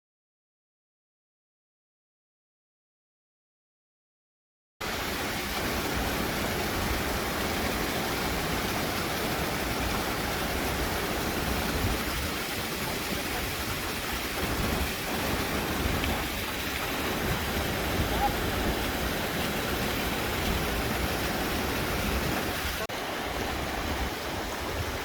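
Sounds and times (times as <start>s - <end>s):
rushing water roar: 4.8s - 25.0s.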